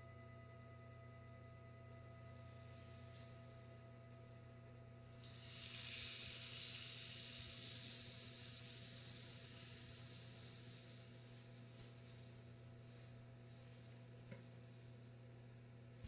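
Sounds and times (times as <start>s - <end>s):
faint electrical hum: 0.0s - 16.0s
soft high-pitched hiss: 0.0s - 16.0s.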